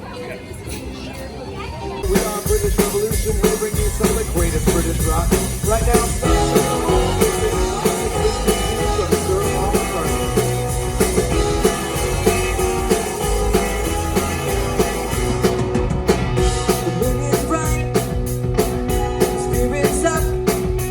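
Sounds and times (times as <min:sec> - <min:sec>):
drum kit beat: 0:02.0 - 0:20.9
electric guitar: 0:02.2 - 0:20.9.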